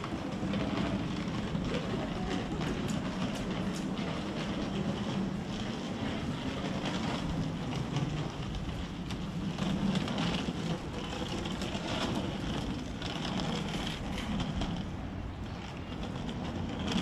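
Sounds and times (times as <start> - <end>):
traffic hum: 0.0 - 17.0.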